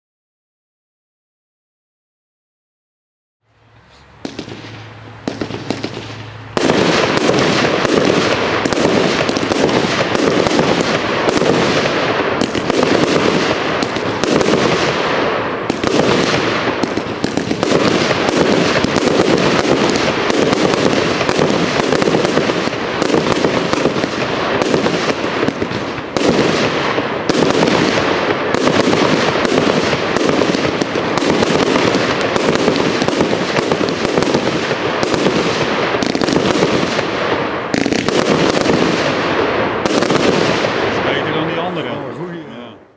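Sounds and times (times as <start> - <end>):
firework cake bangs: 4.2 - 42.0.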